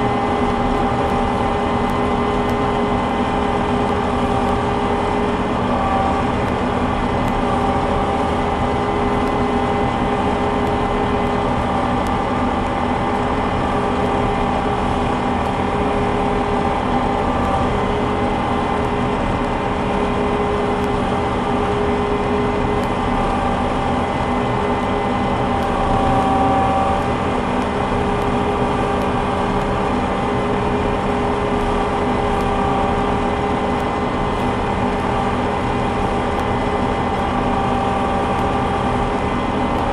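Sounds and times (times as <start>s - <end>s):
engine drone: 0.0s - 39.9s
machinery whining: 0.0s - 39.9s.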